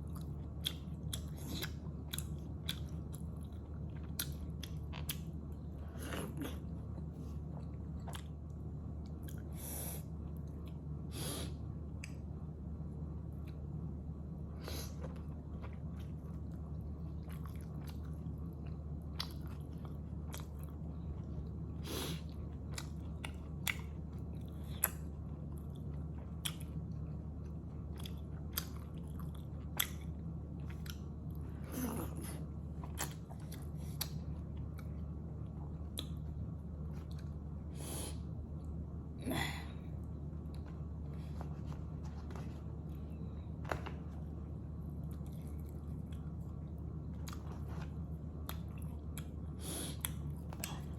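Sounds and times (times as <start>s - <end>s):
person chewing dumplings: 0.0s - 11.0s, 13.3s - 50.9s
steady low hum: 0.0s - 50.9s.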